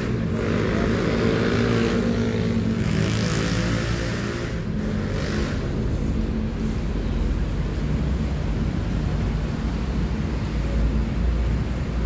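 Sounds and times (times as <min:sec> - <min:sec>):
cars and motorcycles passing: 0:00.0 - 0:12.0.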